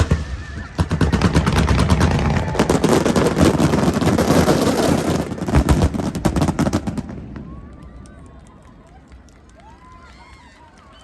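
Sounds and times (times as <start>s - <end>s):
fireworks crackling: 0.0s - 10.9s.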